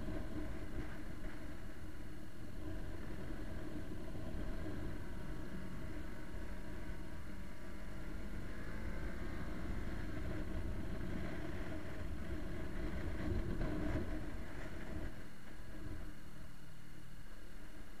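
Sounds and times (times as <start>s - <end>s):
wind and road rush: 0.0s - 16.4s
motorcycle engine drone: 0.0s - 18.0s.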